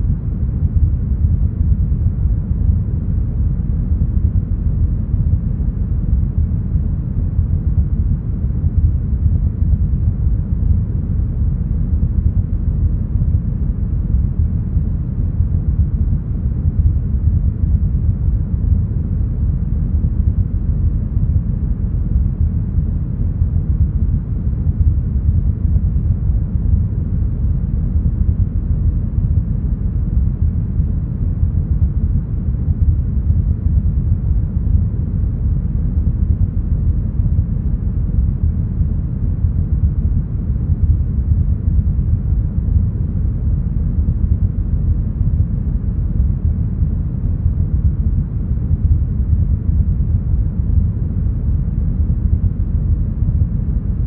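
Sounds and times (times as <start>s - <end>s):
deep brown noise: 0.0s - 54.0s.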